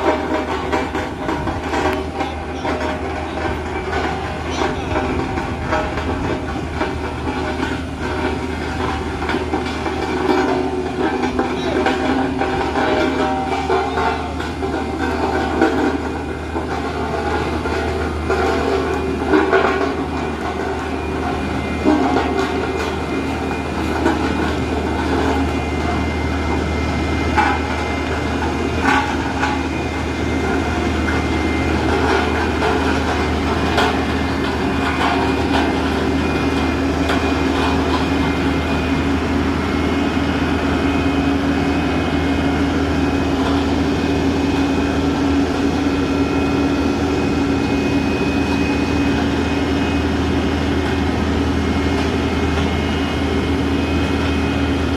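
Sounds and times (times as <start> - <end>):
heavy truck engine running: 0.0 - 54.9.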